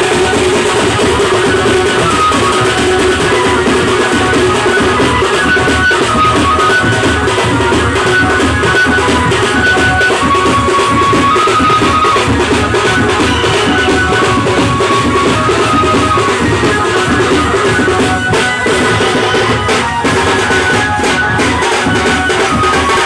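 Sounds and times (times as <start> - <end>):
bass and side drums beating: 0.0 - 23.0
thin high melody: 0.0 - 23.0.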